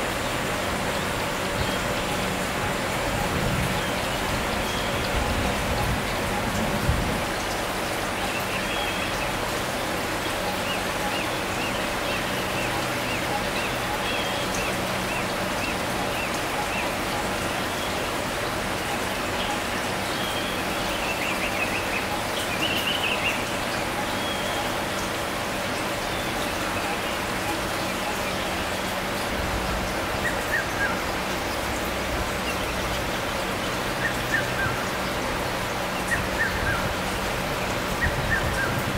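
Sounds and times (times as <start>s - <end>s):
running water hiss: 0.0s - 38.9s.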